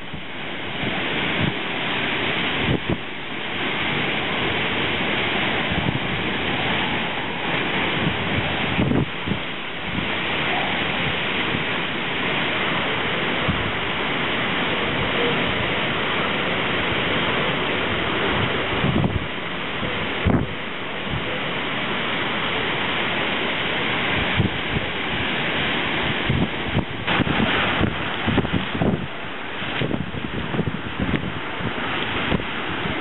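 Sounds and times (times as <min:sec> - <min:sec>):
wind buffeting microphone: 0:00.0 - 0:21.5, 0:24.0 - 0:33.0
heavy rain: 0:00.0 - 0:33.0
storm wind rushing through trees: 0:00.0 - 0:33.0.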